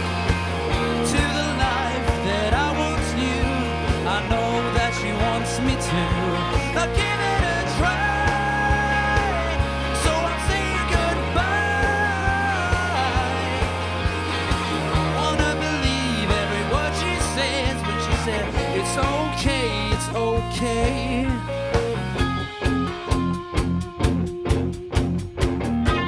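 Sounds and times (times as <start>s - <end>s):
steady drum beat: 0.0s - 26.0s
sustained bass line: 0.0s - 26.0s.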